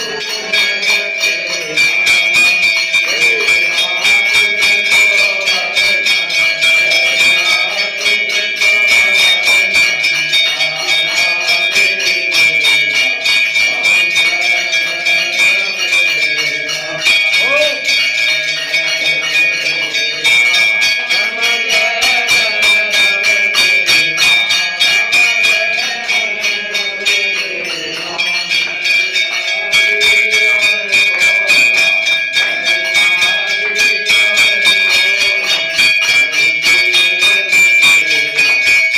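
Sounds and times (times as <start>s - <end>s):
bells ringing rapidly: 0.0s - 38.9s
voices singing: 0.0s - 38.9s.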